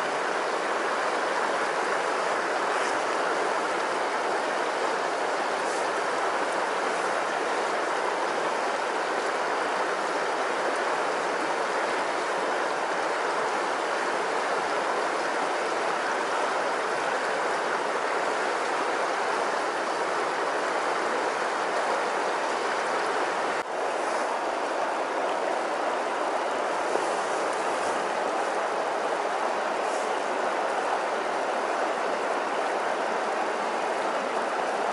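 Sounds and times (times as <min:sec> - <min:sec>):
river rushing: 0:00.0 - 0:34.9.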